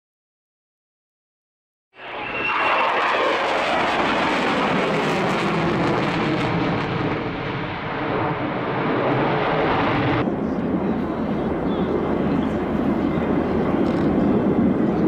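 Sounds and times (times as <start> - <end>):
aircraft engine flying past: 2.0 - 15.0.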